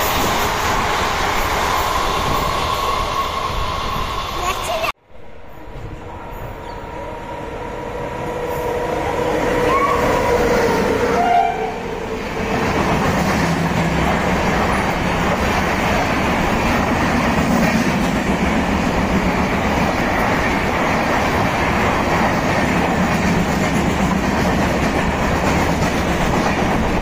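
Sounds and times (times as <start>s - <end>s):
train rushing past: 0.0s - 27.0s.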